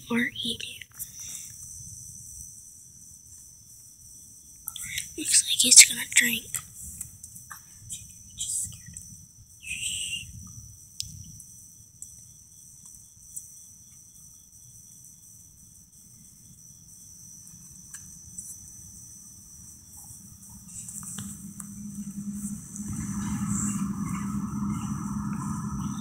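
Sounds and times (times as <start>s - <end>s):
faint evenly spaced chirping: 0.0s - 6.6s, 7.3s - 26.0s
crickets trilling: 0.0s - 26.0s.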